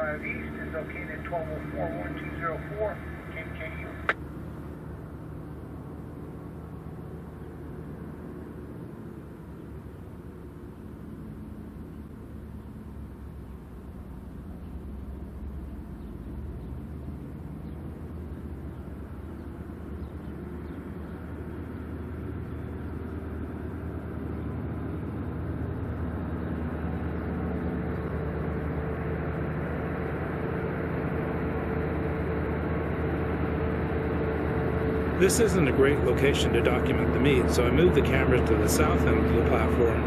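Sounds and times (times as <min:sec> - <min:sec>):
diesel locomotive engine running: 0:00.0 - 0:40.0.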